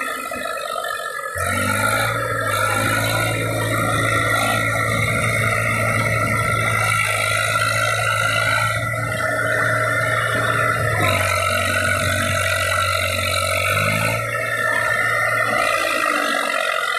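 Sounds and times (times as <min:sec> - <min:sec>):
tractor diesel engine under load: 0:00.0 - 0:16.9
wheels spinning in mud: 0:00.0 - 0:16.9.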